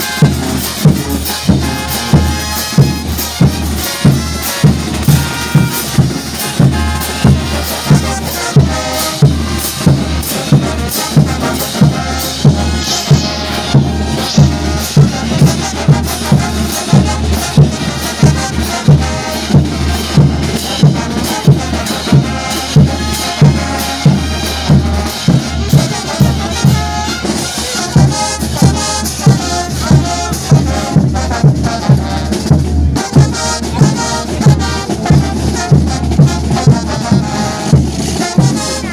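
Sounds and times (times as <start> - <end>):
massed brass playing: 0.0 - 38.9
steady drum beat: 0.0 - 38.9.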